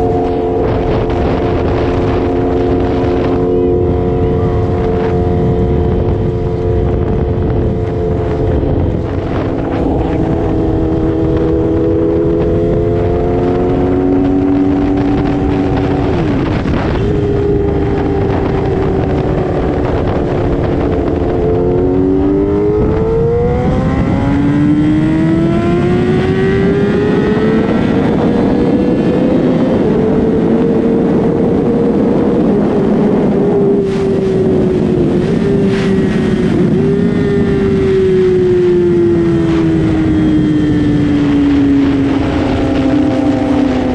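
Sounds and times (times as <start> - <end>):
heavy wind noise: 0.0 - 43.9
motorcycle engine running: 0.0 - 43.9.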